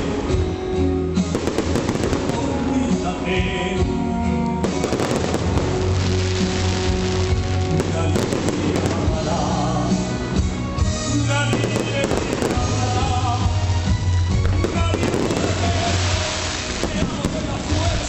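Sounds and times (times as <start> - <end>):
music: 0.0 - 18.0
fireworks bursting and crackling: 1.2 - 18.0.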